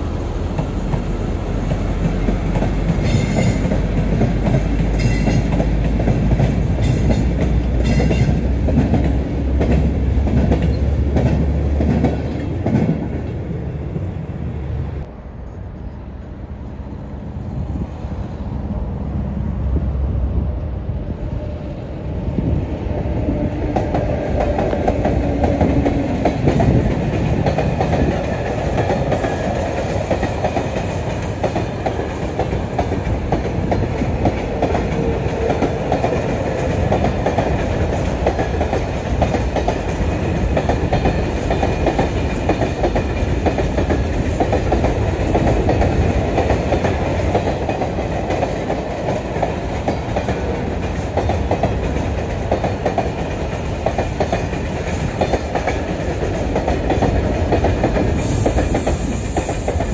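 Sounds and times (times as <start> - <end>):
train rumble: 0.0 - 59.9
train wheels clacking: 0.4 - 13.4, 23.3 - 59.9.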